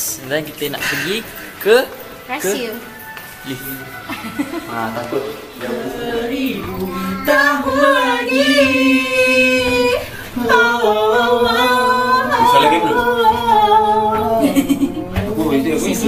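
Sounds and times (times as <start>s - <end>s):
group singing: 2.3s - 16.0s.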